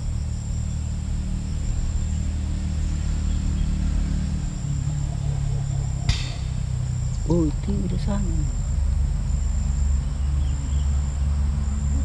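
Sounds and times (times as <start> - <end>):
insects chirring: 0.0 - 12.0
low steady hum: 0.0 - 12.0.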